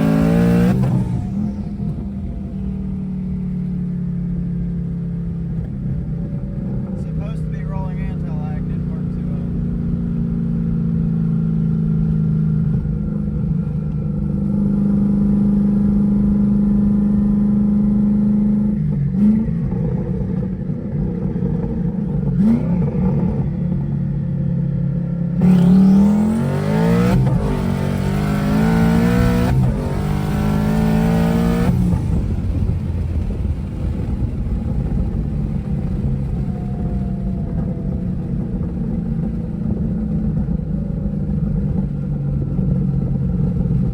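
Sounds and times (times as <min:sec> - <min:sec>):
car engine running and accelerating: 0:00.0 - 0:43.9.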